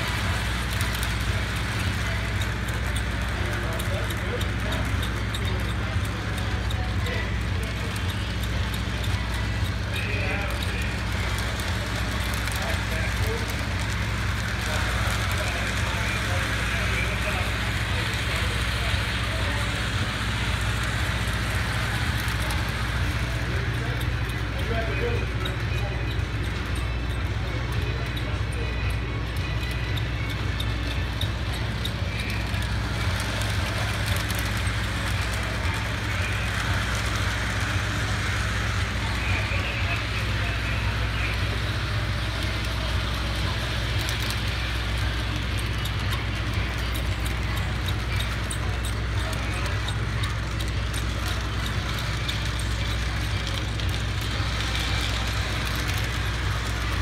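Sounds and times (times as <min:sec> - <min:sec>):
toy train rumbling: 0:00.0 - 0:57.0
faint irregular clicking: 0:00.1 - 0:57.0.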